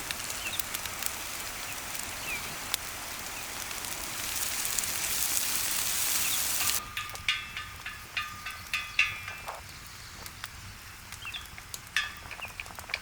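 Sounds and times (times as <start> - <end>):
sausage sizzling in oil: 0.0 - 13.0.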